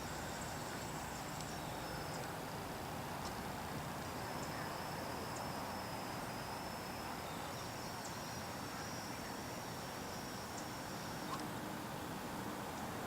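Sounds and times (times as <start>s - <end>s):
insects trilling: 0.0s - 12.1s
low background hiss: 0.0s - 13.0s.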